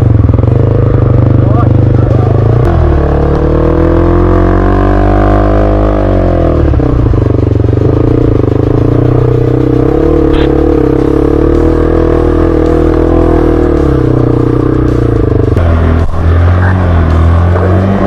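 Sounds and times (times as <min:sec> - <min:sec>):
motorbike engine running: 0:00.0 - 0:18.0.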